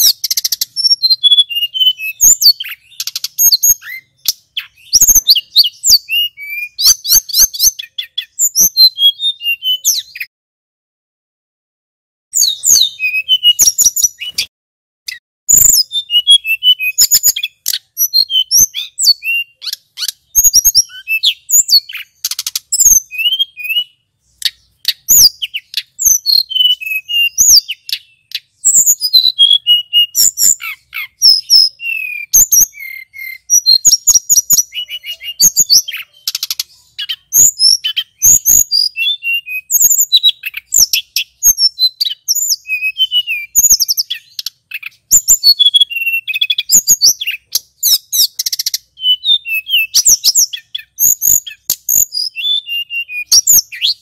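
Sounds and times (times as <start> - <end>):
bird singing whistled phrases: 0.0 - 10.3, 12.3 - 14.5, 15.1 - 54.0.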